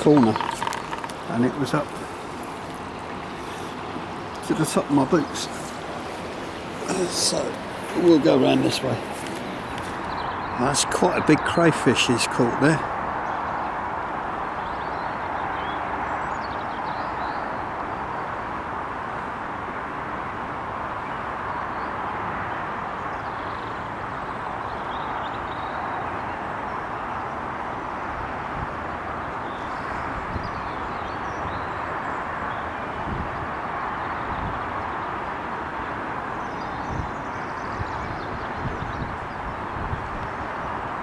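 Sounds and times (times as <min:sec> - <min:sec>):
rushing floodwater: 0:00.0 - 0:41.0.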